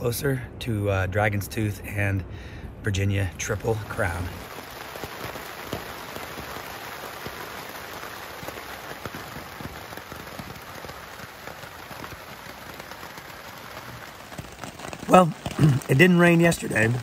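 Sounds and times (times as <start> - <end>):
rain falling on tent fabric: 2.9 - 17.0.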